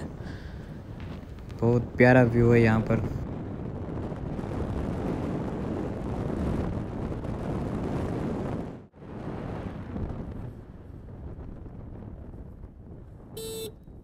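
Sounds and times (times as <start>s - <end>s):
tyre and road noise: 0.0s - 14.0s
wind rushing over microphone: 0.0s - 14.0s.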